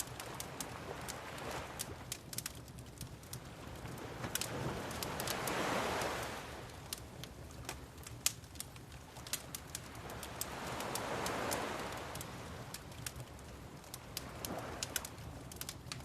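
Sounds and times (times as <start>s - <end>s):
waves washing in and out: 0.0s - 16.0s
wood fire crackling: 0.0s - 16.0s.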